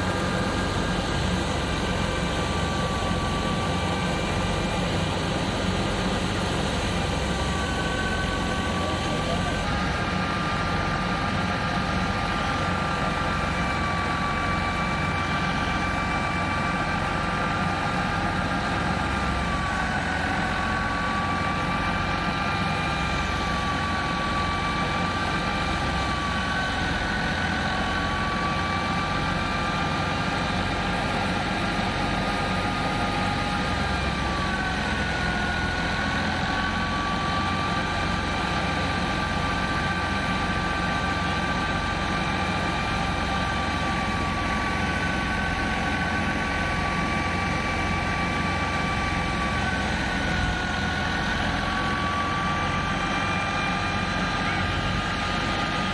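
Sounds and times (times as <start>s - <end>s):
high mechanical whine: 0.0s - 55.9s
thresher heavy rumble: 0.0s - 55.9s.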